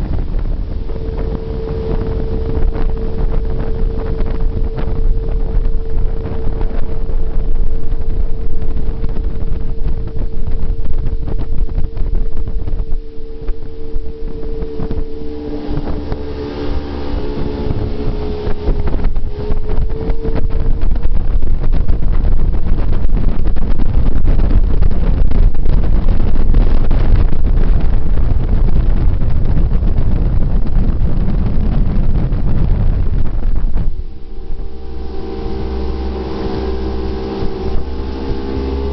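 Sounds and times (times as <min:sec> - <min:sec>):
jet boat engine drone: 0:00.0 - 0:38.9
wind buffeting microphone: 0:00.0 - 0:38.9.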